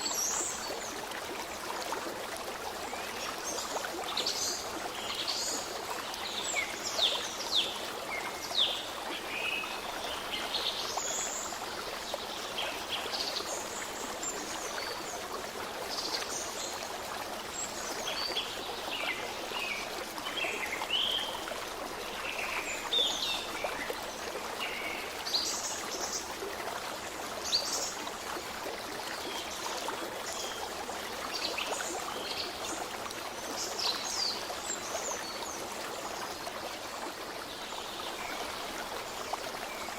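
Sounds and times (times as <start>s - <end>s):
babbling stream: 0.0s - 39.9s.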